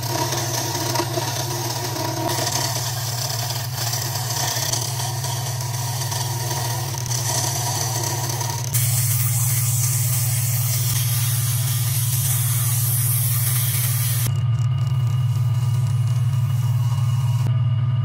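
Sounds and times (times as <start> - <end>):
turning tool cutting wood: 0.0 - 17.5
wood lathe motor hum: 0.0 - 17.6.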